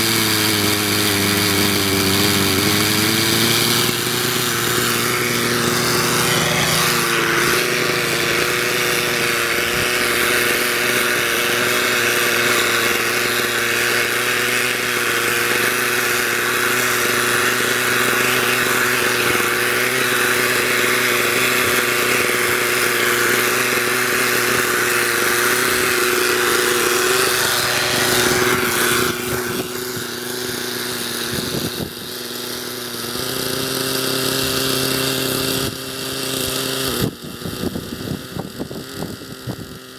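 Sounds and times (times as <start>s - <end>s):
rc helicopter engine and rotors: 0.0s - 39.9s.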